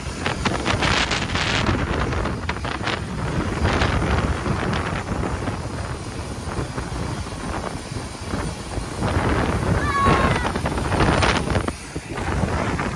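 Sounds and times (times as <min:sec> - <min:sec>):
steady low rumble: 0:00.0 - 0:12.9
wind buffeting microphone: 0:00.0 - 0:12.9.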